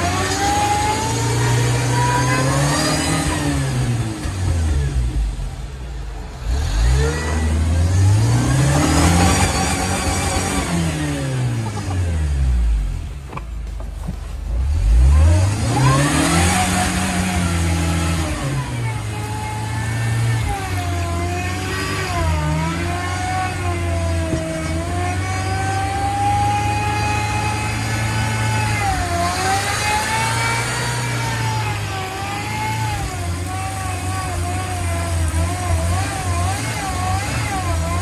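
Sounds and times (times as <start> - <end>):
car engine revving hard: 0.0 - 13.3, 14.5 - 38.0.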